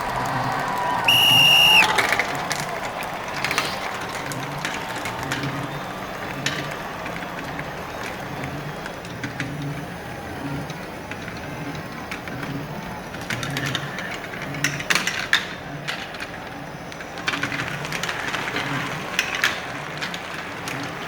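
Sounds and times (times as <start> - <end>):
crowd noise: 0.0 - 21.0.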